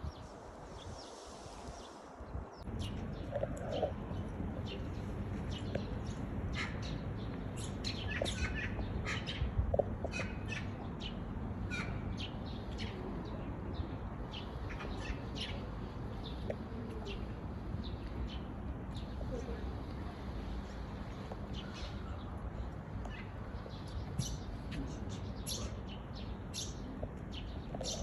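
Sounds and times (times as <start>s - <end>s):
songbirds singing and chirping: 0.0s - 28.0s.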